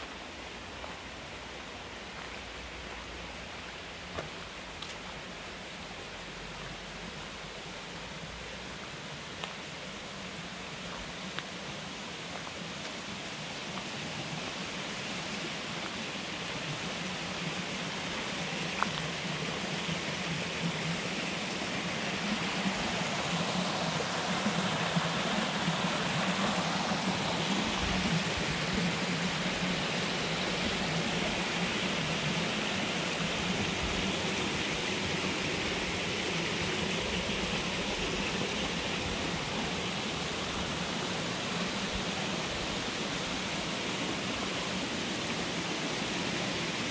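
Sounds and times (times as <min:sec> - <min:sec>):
waterfall rushing: 0:03.1 - 0:46.9.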